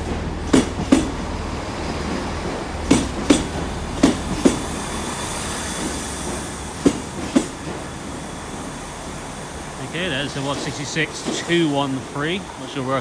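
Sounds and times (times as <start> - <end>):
train wheels clicking over rail joint: 0.0 - 13.0.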